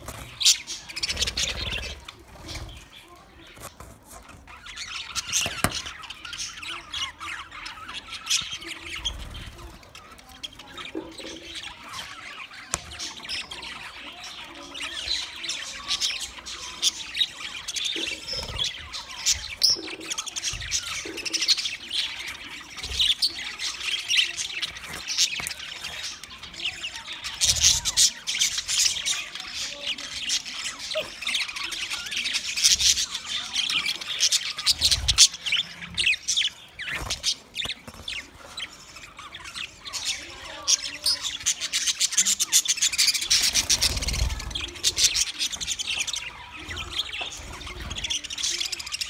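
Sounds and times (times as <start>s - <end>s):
flock of budgerigars chirping: 0.0s - 49.0s.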